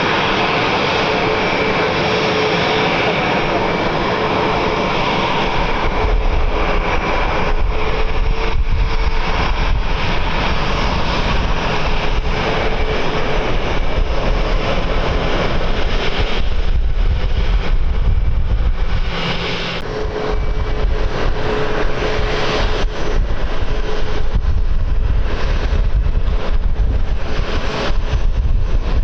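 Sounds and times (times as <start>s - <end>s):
airliner engines rumbling: 0.0s - 29.0s
wind buffeting microphone: 0.0s - 29.0s.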